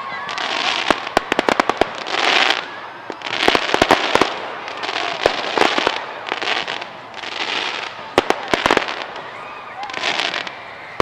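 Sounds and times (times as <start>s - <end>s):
crackling hiss of fireworks: 0.0s - 11.0s
firework bangs: 0.0s - 11.0s.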